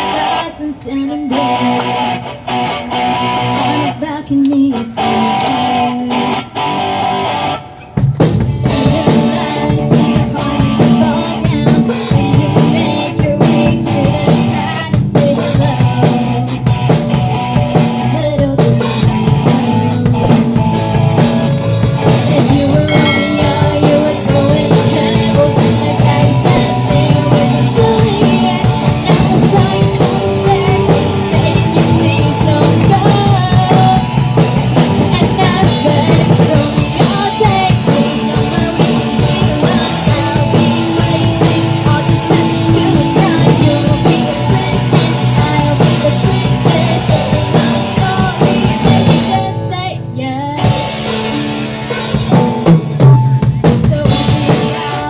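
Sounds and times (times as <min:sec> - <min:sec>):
person singing: 0:00.0 - 0:02.2, 0:03.3 - 0:06.5, 0:08.5 - 0:16.7, 0:21.9 - 0:51.0, 0:53.4 - 0:55.0
live rock band playing: 0:00.0 - 0:55.0
drum kit: 0:07.4 - 0:49.7, 0:50.6 - 0:55.0.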